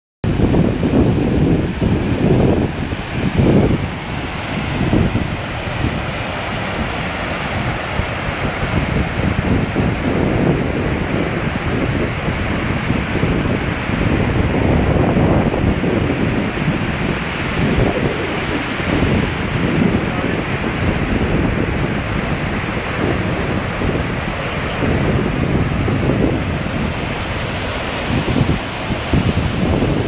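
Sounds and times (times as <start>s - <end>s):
white water rushing: 0.2s - 30.0s
wind gusting on microphone: 0.2s - 30.0s.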